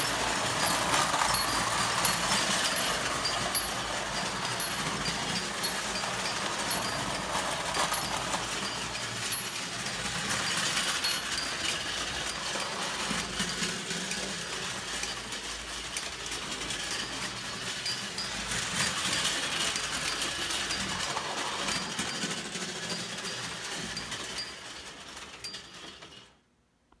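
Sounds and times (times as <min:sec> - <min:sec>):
toy train metallic clatter: 0:00.0 - 0:26.5.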